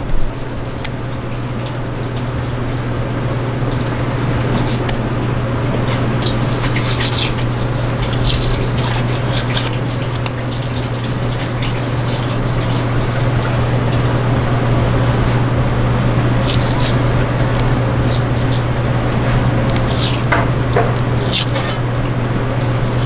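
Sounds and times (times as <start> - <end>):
constant low hum: 0.0 - 23.0
running water rushing: 0.0 - 23.0
fish skin peeling crackles: 3.3 - 23.0.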